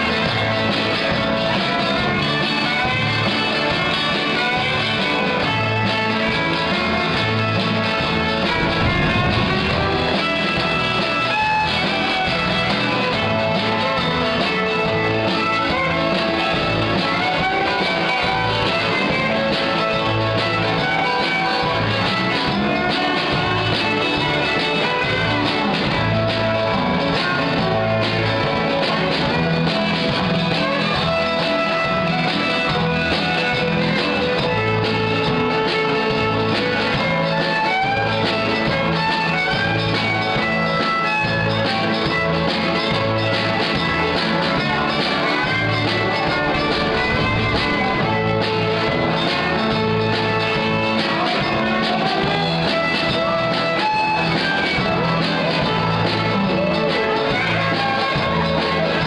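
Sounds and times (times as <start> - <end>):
live fiddle band music: 0.0 - 59.0.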